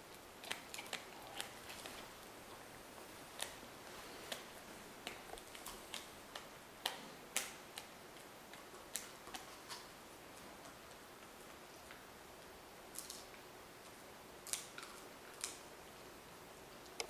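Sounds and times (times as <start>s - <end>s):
wolves chewing and crunching: 0.0s - 15.7s.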